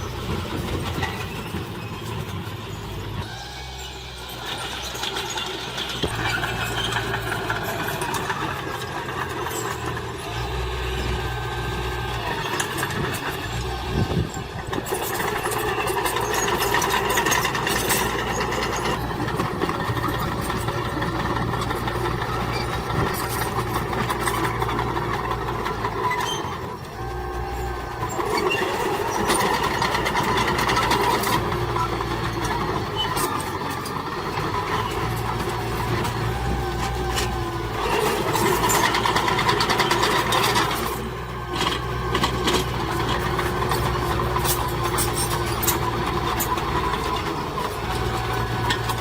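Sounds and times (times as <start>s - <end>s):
heavy machinery diesel engine: 0.0s - 49.0s.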